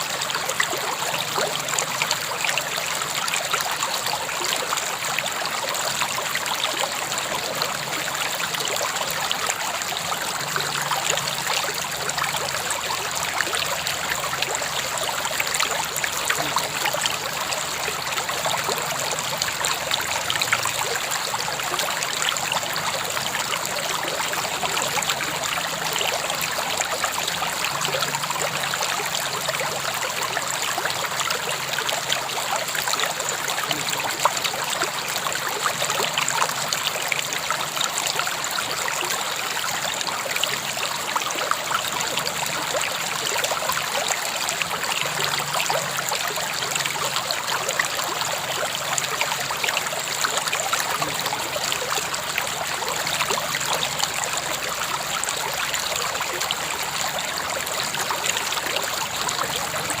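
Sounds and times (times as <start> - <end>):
river water flowing over stones: 0.0 - 60.0.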